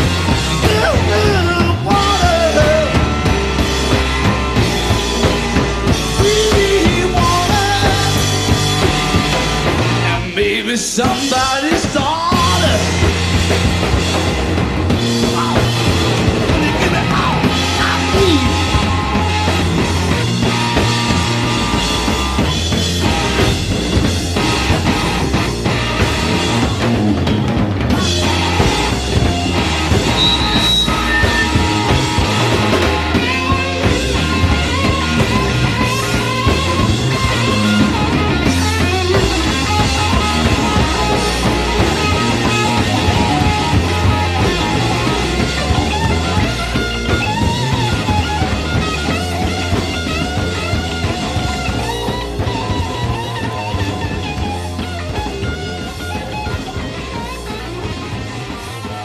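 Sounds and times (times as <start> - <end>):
instrumental rock music: 0.0 - 59.0.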